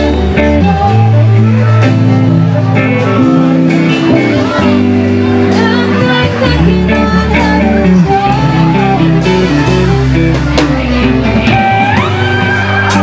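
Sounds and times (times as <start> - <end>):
person singing: 0.0 - 13.0
rock band playing: 0.0 - 13.0.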